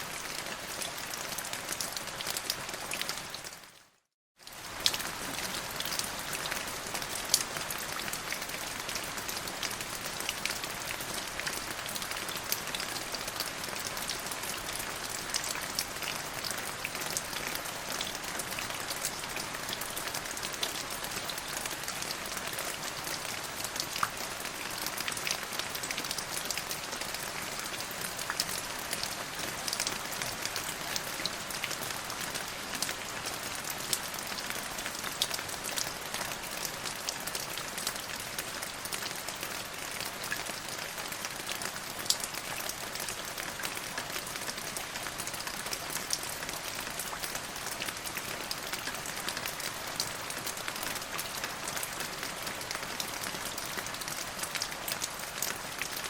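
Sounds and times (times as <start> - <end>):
steady rain on hard surface: 0.0 - 56.0.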